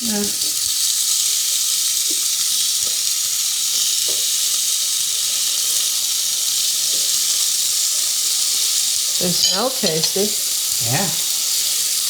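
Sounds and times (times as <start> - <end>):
chicken sizzling on a grill: 0.0 - 12.0.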